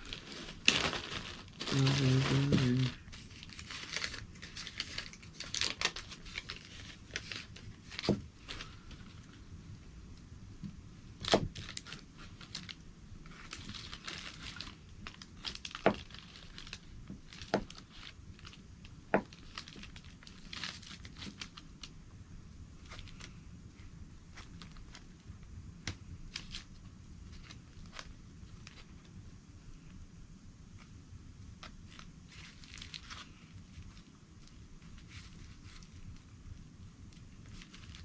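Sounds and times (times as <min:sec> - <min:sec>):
plastic packaging crinkling: 0:00.0 - 0:09.5, 0:11.2 - 0:22.0, 0:22.8 - 0:23.4, 0:24.3 - 0:25.2, 0:25.9 - 0:29.1, 0:31.6 - 0:36.5, 0:37.1 - 0:38.0.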